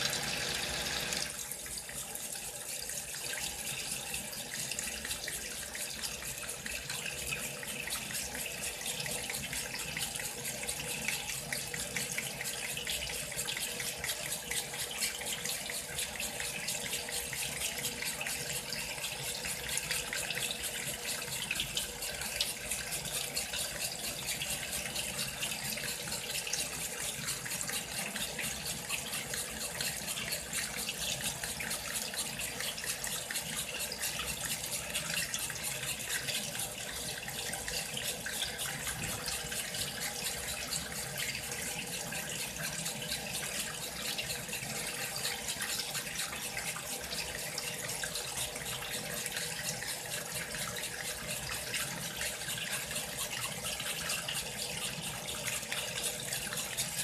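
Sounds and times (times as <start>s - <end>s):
water gushing into washing machine: 0.0s - 57.0s.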